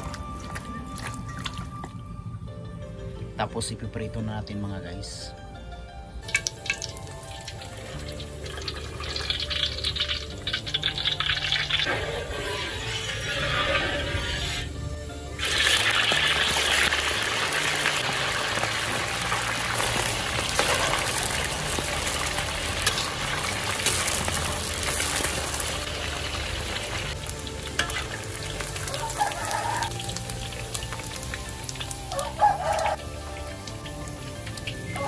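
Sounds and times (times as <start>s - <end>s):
oil sizzling while deep-frying: 0.0s - 2.0s, 6.2s - 35.0s.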